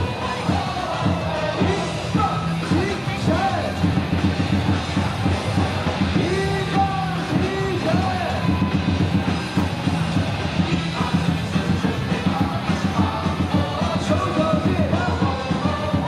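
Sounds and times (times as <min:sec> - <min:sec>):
crowd singing and yelling: 0:00.0 - 0:16.0
stadium cheer song: 0:00.0 - 0:16.0
steady drum beat: 0:00.0 - 0:16.0.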